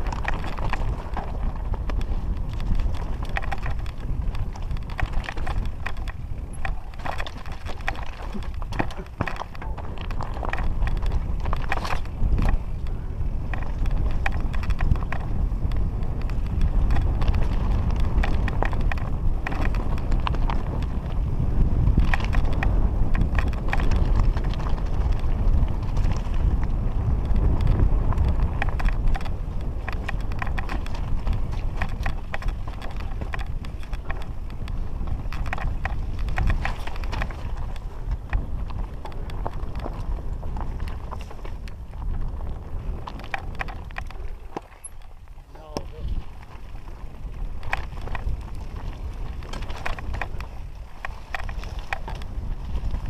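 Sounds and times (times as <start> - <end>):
mountain bike rattling over rocks: 0.0 - 53.0
wind buffeting microphone: 0.0 - 53.0.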